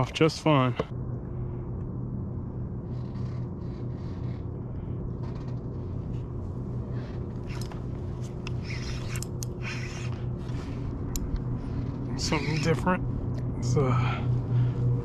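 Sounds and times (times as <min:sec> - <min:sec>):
motor humming: 0:02.7 - 0:15.0.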